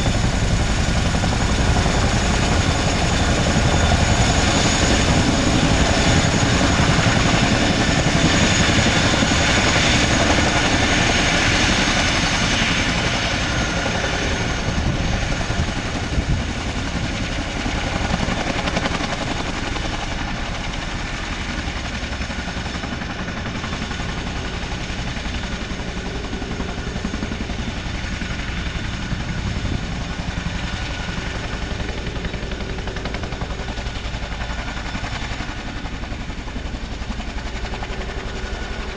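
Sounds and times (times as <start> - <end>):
helicopter engines whining: 0.0 - 38.9
helicopter rotors beating: 0.0 - 38.9.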